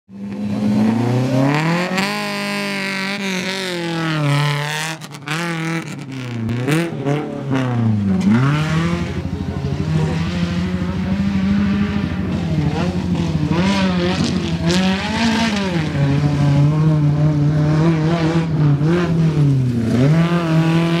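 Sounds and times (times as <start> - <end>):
rally car engine revving: 0.1 - 21.0.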